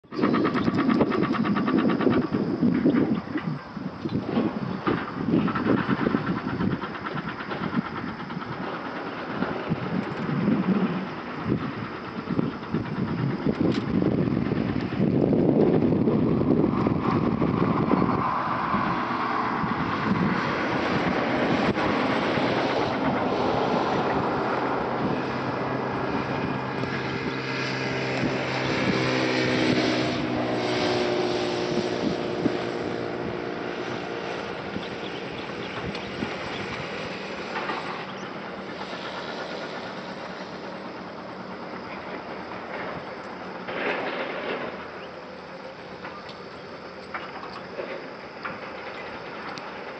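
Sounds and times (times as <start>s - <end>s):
vehicle engine humming: 0.0s - 49.9s.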